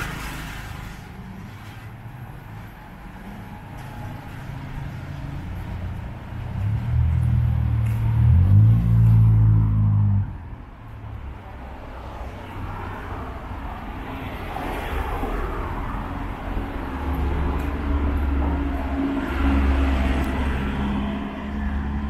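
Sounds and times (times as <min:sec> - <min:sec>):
street traffic noise: 0:00.0 - 0:22.0
vehicle engine humming: 0:00.0 - 0:22.0.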